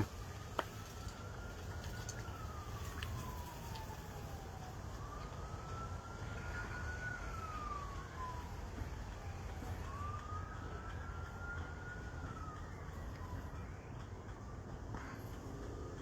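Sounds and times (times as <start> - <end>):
faint siren wailing: 0.0 - 16.0
low background hum: 0.0 - 16.0.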